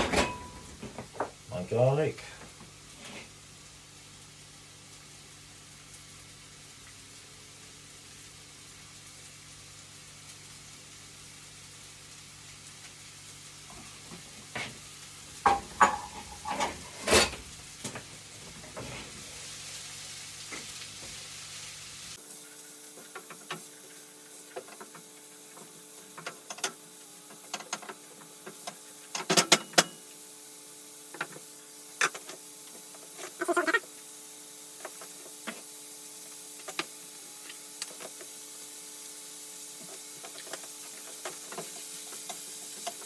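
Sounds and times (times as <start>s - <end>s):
onions sizzling in hot oil: 0.0s - 43.0s.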